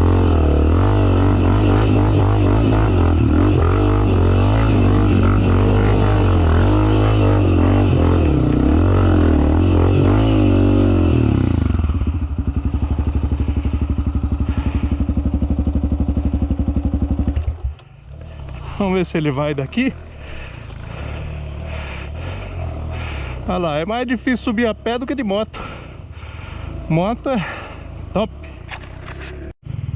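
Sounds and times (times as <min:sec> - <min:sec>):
dirt bike engine running: 0:00.0 - 0:29.9.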